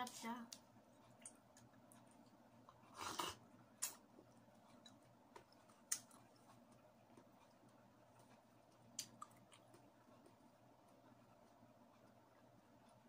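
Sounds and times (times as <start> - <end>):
mouth chewing: 1.0 - 12.9.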